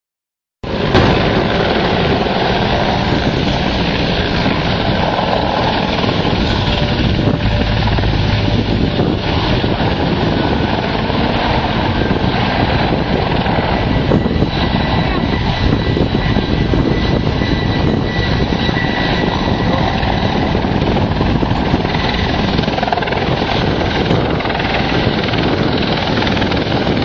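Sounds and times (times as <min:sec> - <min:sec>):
helicopter rotor and engine: 0:00.6 - 0:27.0.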